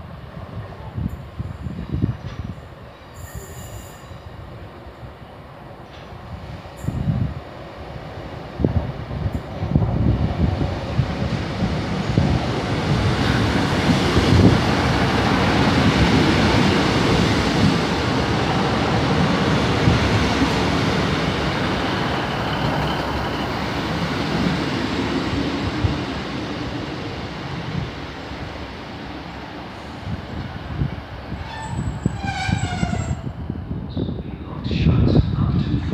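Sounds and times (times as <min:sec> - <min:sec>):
passenger train passing: 0:00.0 - 0:35.9.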